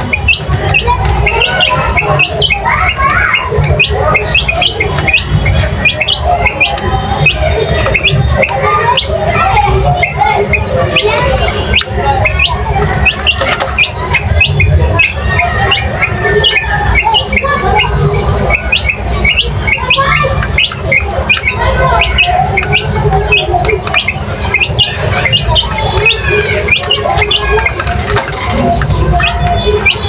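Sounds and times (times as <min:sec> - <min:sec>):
birds chirping and squawking: 0:00.0 - 0:30.0.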